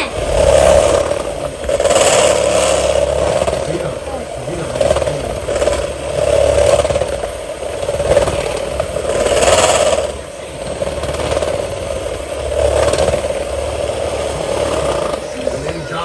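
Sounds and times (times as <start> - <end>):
electric hand mixer whining: 0.0 - 16.0.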